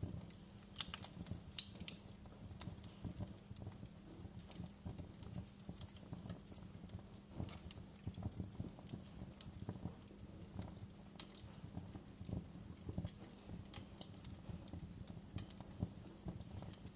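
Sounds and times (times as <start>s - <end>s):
low steady hum: 0.0s - 16.9s
wood fire crackling: 0.0s - 16.9s.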